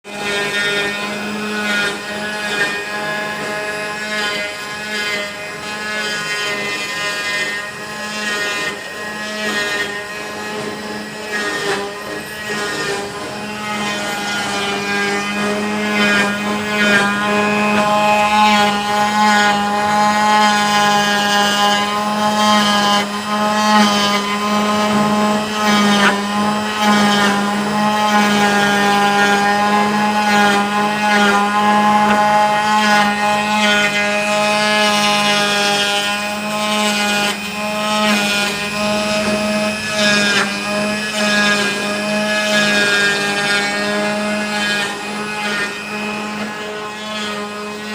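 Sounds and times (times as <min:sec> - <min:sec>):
wood router humming: 0:00.0 - 0:47.9.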